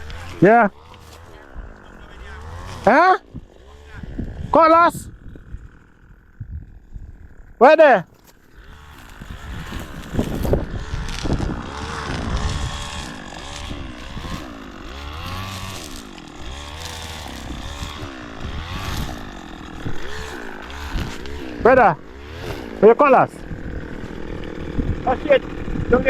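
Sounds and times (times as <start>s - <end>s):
small petrol engine revving: 0.0s - 26.0s.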